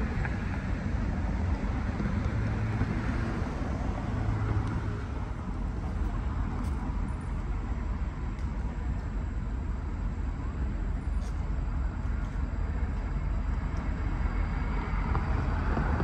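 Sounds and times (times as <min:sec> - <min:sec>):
train rumbling on tracks: 0:00.0 - 0:16.0.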